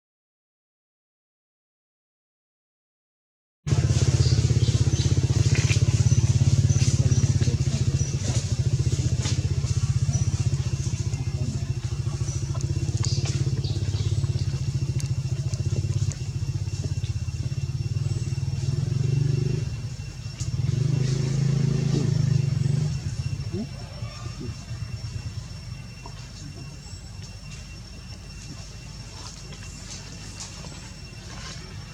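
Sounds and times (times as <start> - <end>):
engine running: 3.7 - 31.9.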